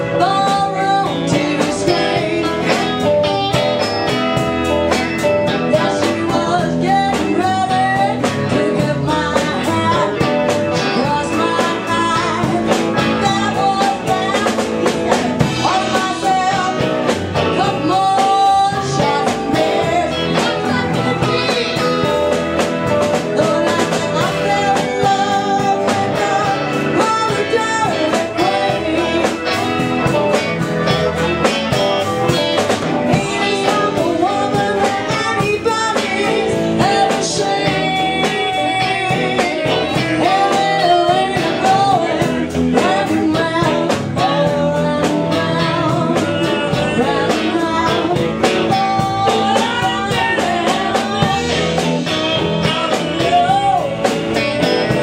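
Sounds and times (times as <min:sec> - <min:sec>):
live blues band playing: 0:00.0 - 0:55.0
woman singing: 0:00.0 - 0:55.0.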